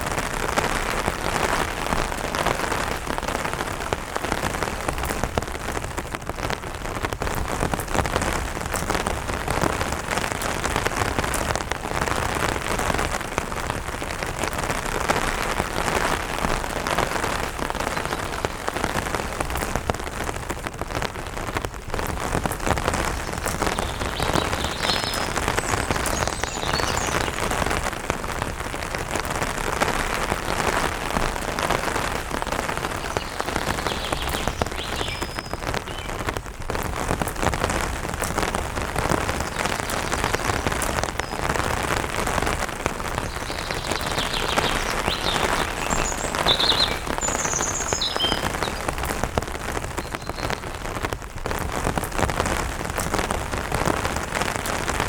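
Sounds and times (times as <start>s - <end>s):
light rain on an umbrella: 0.0s - 55.0s.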